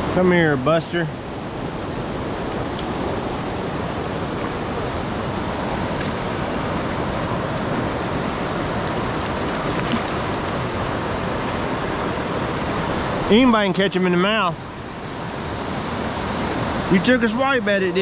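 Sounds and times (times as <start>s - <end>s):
creek rushing over rocks: 0.1s - 18.0s.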